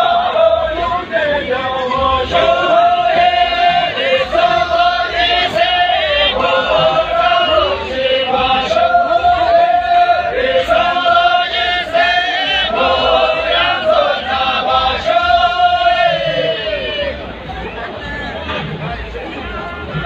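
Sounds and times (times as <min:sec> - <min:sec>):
women singing in unison: 0:00.0 - 0:16.7.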